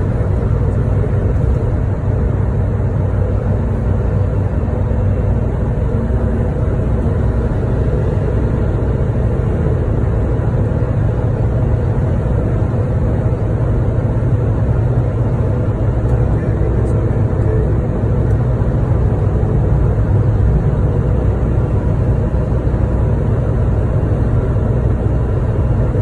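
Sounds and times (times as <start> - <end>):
car engine rumble: 0.0 - 26.0.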